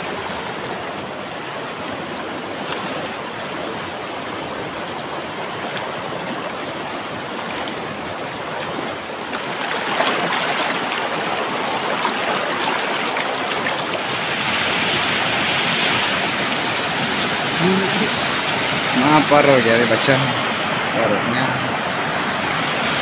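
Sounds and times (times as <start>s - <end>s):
people wading through water: 0.0s - 23.0s
river rushing over rocks: 0.0s - 23.0s.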